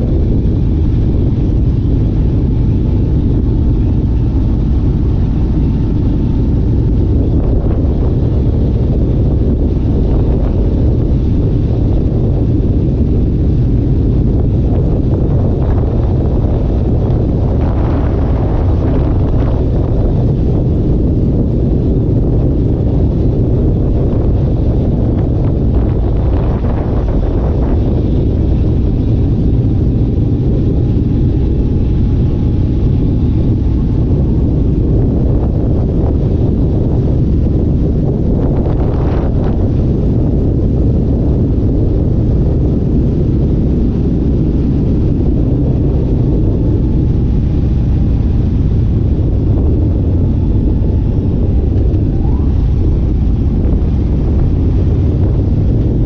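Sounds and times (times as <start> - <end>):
vehicle engine rumbling: 0.0 - 56.0
wind on microphone: 0.0 - 56.0.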